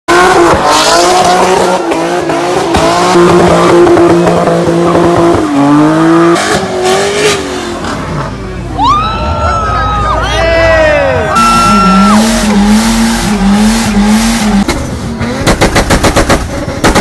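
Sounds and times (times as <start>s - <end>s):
car engine revving high: 0.1s - 8.4s, 11.4s - 17.0s
tires squealing: 0.1s - 15.5s.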